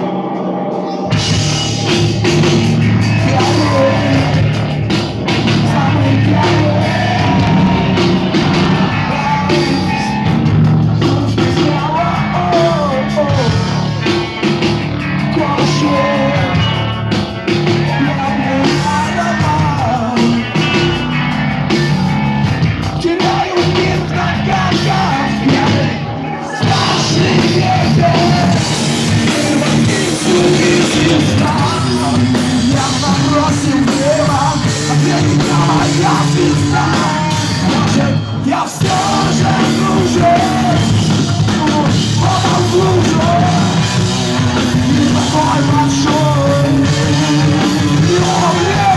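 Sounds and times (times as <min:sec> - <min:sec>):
heavy rock band playing live: 0:00.0 - 0:48.9.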